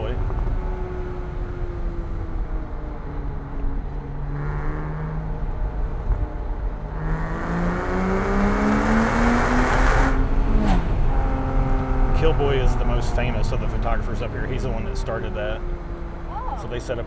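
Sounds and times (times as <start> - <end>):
car engine accelerating: 0.0 - 17.0
low road rumble: 0.0 - 17.0.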